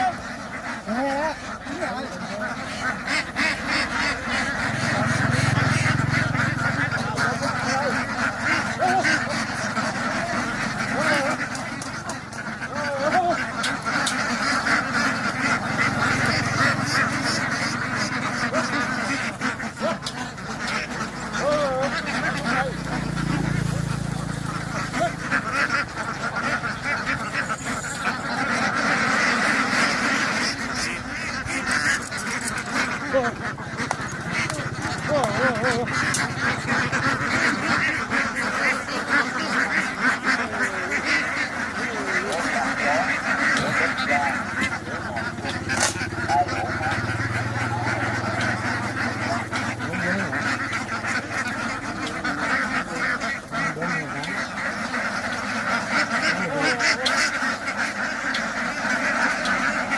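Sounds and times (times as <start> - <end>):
ducks quacking: 0.0 - 59.9.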